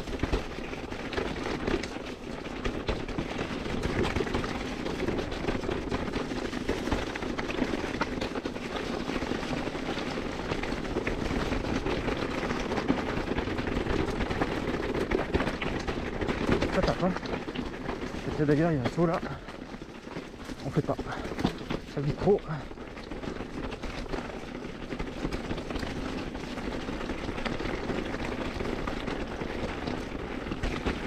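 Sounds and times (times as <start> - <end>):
bike knocking and rattling: 0.0 - 31.0.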